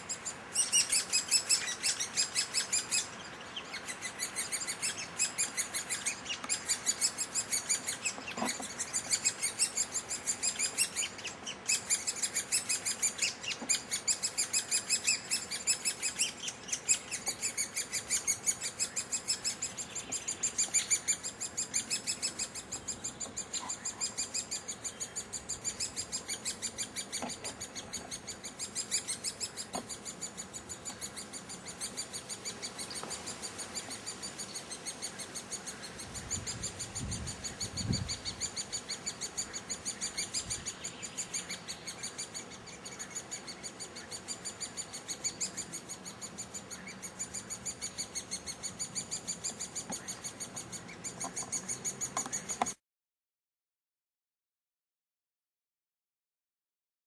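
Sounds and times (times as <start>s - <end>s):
nestlings begging calls: 0.0s - 52.6s.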